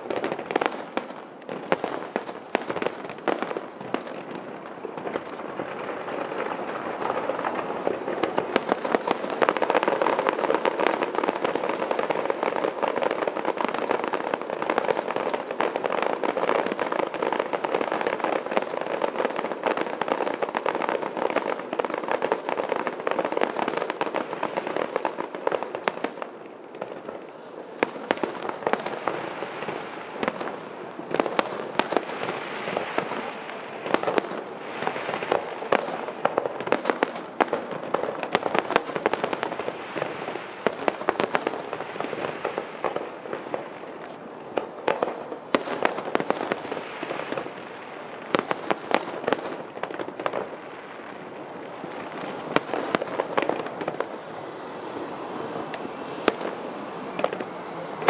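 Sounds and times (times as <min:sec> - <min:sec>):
firework crackle: 0:00.0 - 0:58.0.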